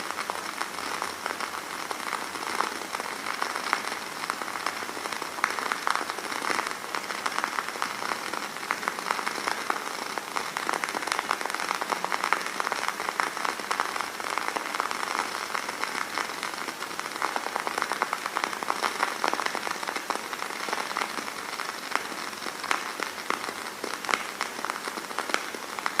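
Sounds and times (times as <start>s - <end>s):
candle flame crackling: 0.0s - 26.0s.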